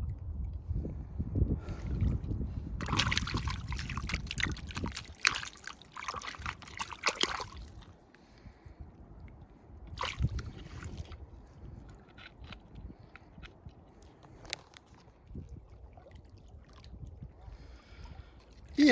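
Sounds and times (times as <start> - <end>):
water splashing and sloshing: 1.6 - 18.9.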